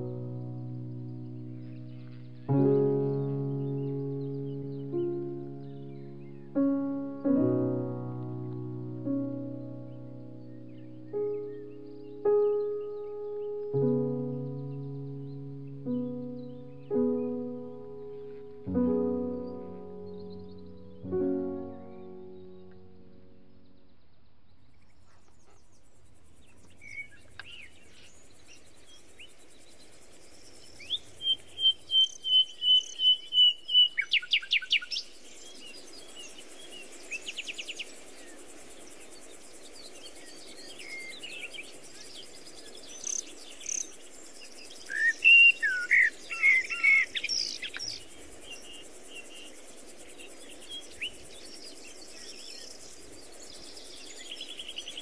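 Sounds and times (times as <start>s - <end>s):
low background hiss: 0.0s - 55.0s
songbirds singing: 0.0s - 55.0s.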